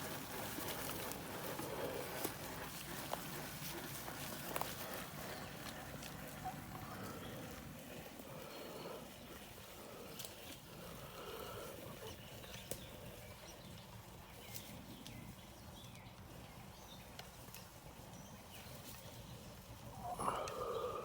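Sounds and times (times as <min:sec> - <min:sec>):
low outdoor rumble: 0:00.0 - 0:21.0
tyres crunching over dirt: 0:00.0 - 0:21.0.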